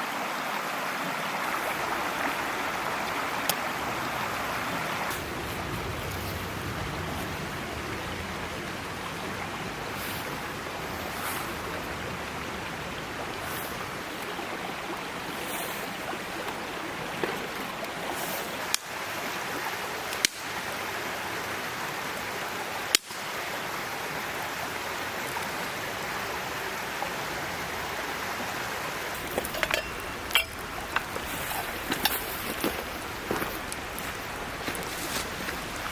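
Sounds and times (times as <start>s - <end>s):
stream babbling: 0.0s - 35.9s.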